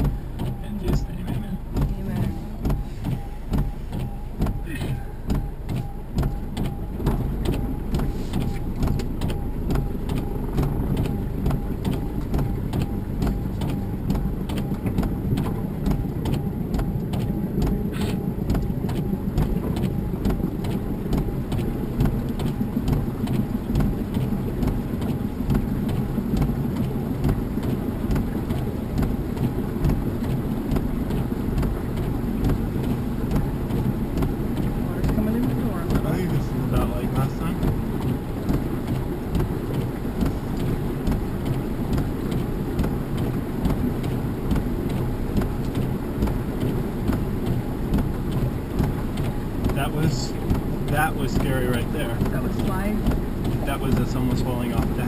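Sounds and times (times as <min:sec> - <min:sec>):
dense low rumble: 0:00.0 - 0:55.0
engine running at low revs: 0:00.0 - 0:55.0.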